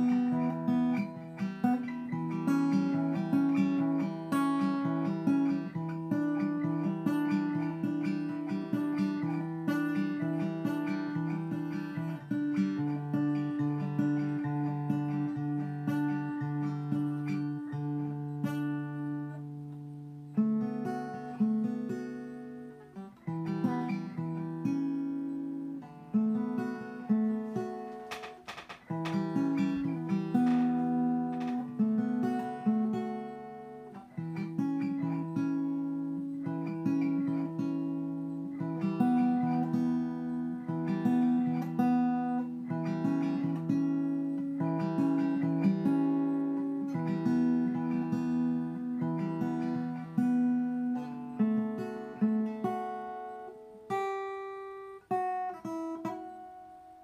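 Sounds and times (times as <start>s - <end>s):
acoustic guitar strummed slowly: 0.0s - 57.0s.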